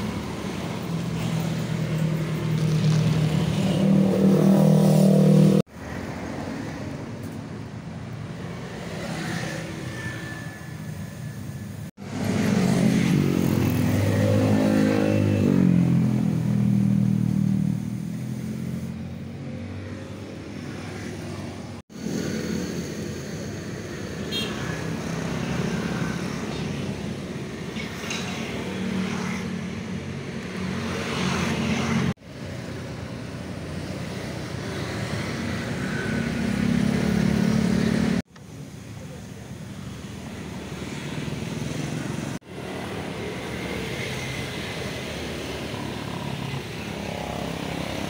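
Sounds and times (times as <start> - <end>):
scooters and cars passing: 0.0 - 48.0.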